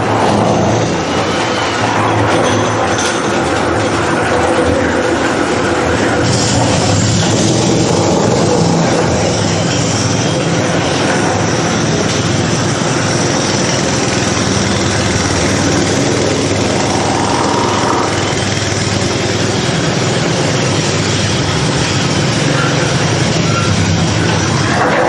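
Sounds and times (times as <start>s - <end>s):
concrete mixer running: 0.0s - 25.0s.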